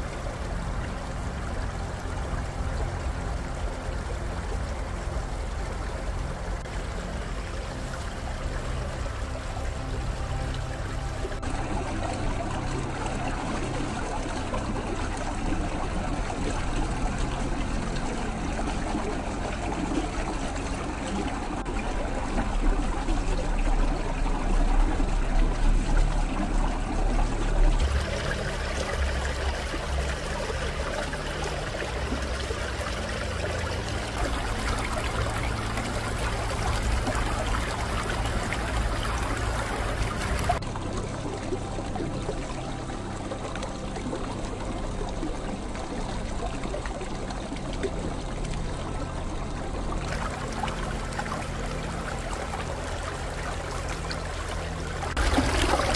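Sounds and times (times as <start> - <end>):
stream water trickling: 0.0 - 55.9.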